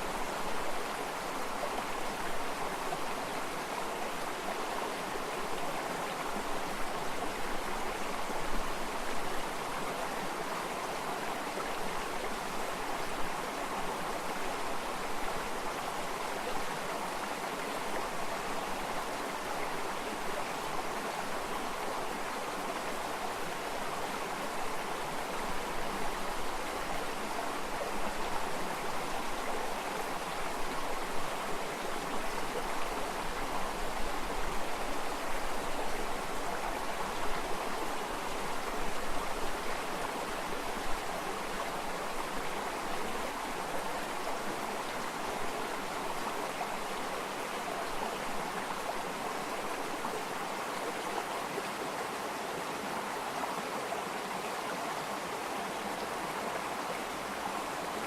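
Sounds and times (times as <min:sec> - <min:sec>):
stream water rushing and babbling: 0:00.0 - 0:58.0.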